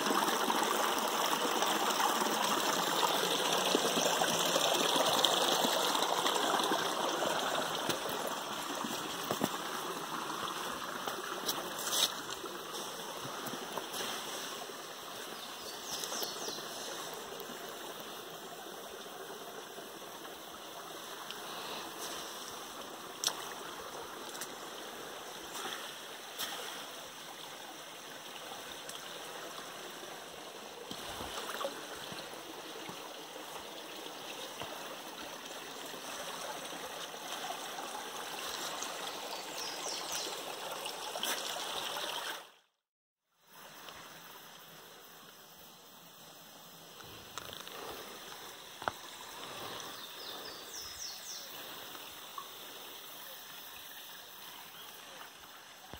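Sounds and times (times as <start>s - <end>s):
stream trickling over stones: 0.0s - 42.7s, 43.4s - 55.9s.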